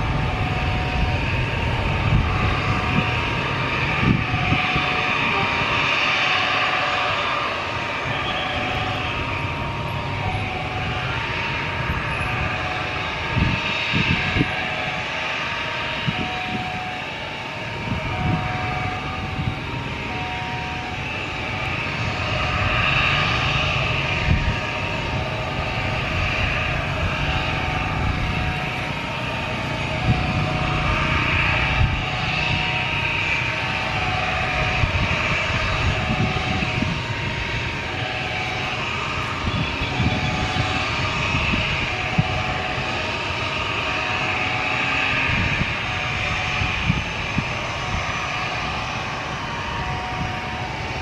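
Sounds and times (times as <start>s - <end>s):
jet engines rumbling: 0.0s - 51.0s.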